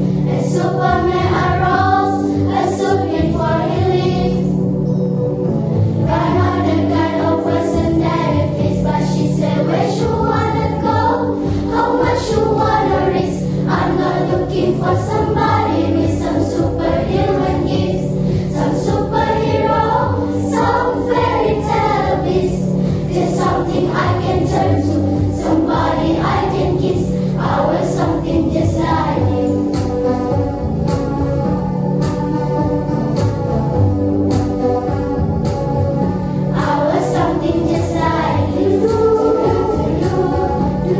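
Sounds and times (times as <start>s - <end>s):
girls' choir singing: 0.0s - 4.6s, 6.0s - 30.0s, 36.5s - 40.9s.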